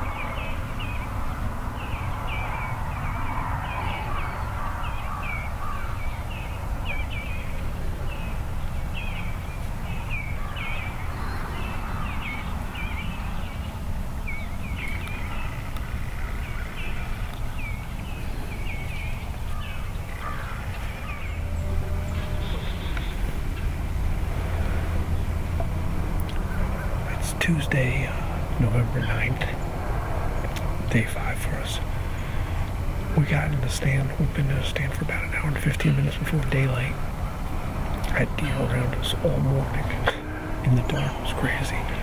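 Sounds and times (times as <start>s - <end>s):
birds calling: 0.0s - 42.0s
low steady rumble: 0.0s - 42.0s.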